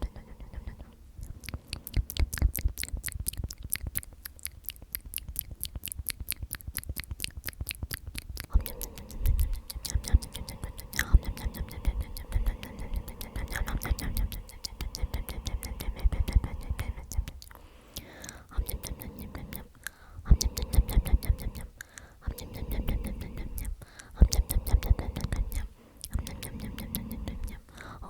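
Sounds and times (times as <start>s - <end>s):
close whispering: 0.0s - 28.0s
wet mouth clicks: 0.0s - 28.0s.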